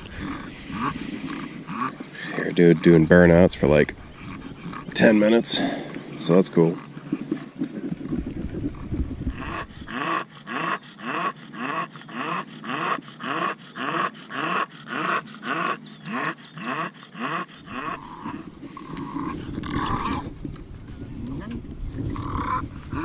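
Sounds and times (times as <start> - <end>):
dog panting hard: 0.0 - 15.8, 16.4 - 20.3.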